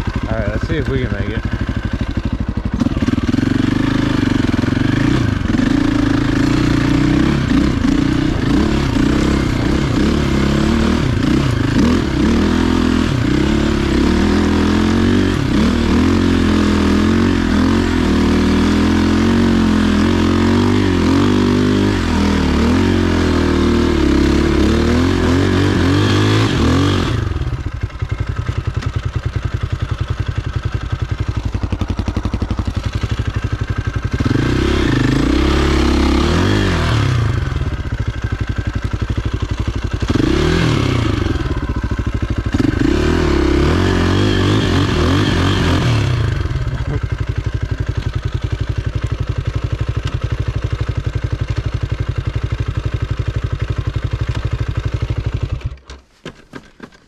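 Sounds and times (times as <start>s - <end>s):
dirt bike engine revving: 0.0s - 55.7s.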